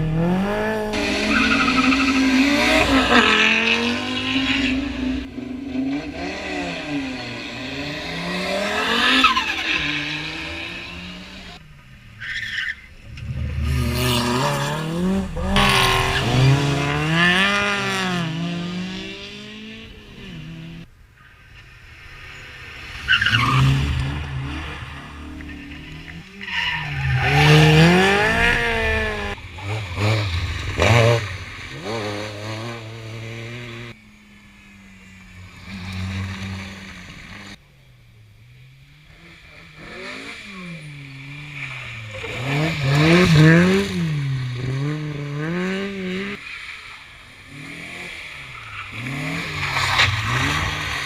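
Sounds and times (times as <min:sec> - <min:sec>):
rally car engines revving past: 0:00.0 - 0:11.6, 0:12.9 - 0:20.9, 0:21.5 - 0:51.0.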